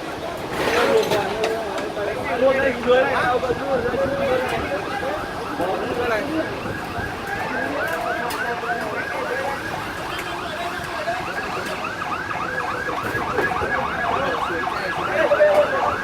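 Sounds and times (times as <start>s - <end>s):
emergency siren yelping: 2.5s - 16.0s.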